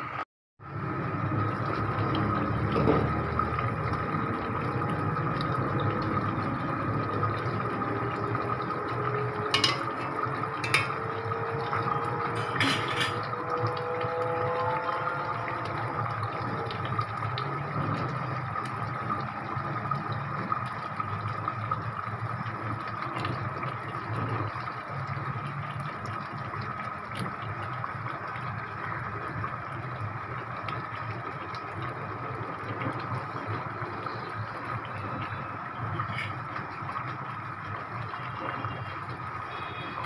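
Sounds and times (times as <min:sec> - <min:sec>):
curry simmering and bubbling: 0:00.6 - 0:40.0.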